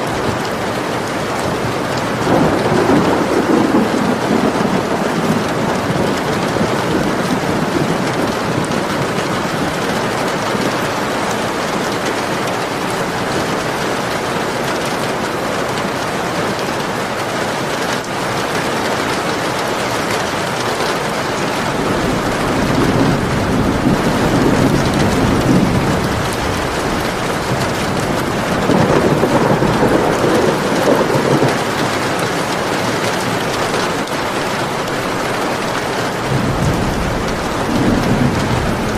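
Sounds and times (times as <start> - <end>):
thunder rumbling: 0.0 - 15.2, 20.4 - 38.9
steady rain: 0.0 - 38.9.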